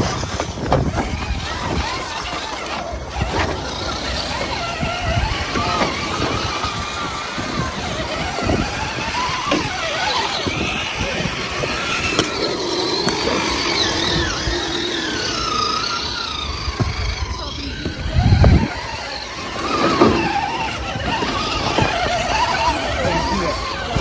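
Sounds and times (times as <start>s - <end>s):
motor whining: 0.0s - 24.0s.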